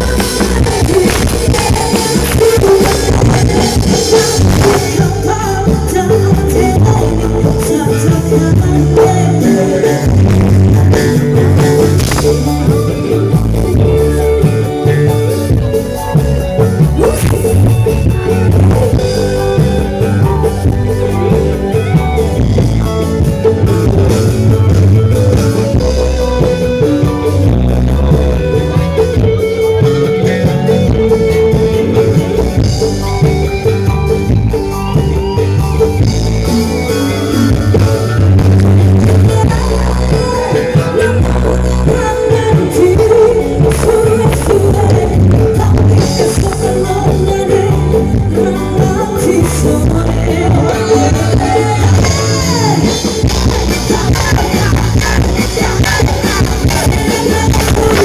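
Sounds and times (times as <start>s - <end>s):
loud music with singing: 0.0s - 58.0s.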